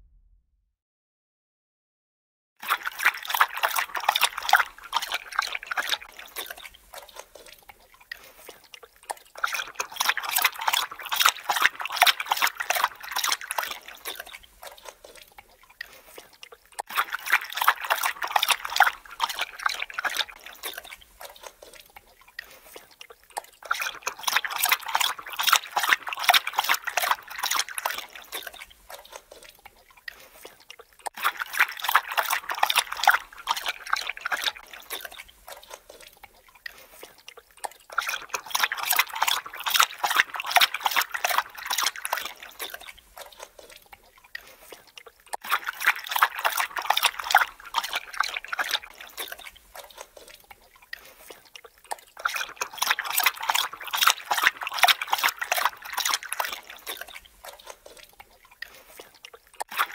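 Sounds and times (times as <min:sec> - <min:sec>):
dog lapping water: 0:02.6 - 0:59.9.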